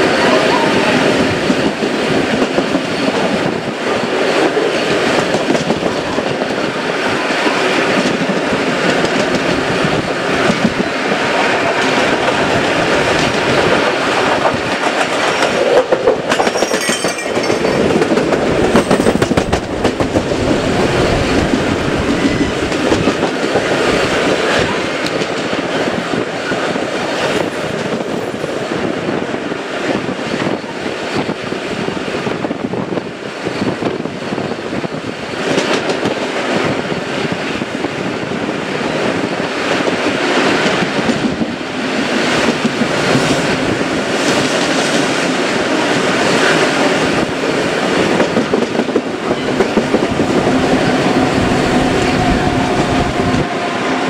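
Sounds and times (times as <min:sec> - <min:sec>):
steam train running: 0:00.0 - 0:54.0.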